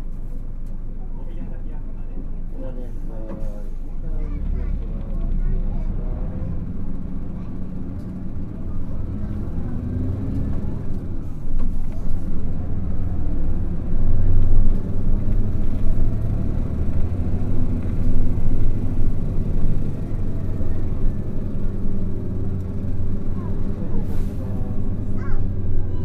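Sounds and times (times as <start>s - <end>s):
diesel bus engine drone: 0.0s - 26.0s.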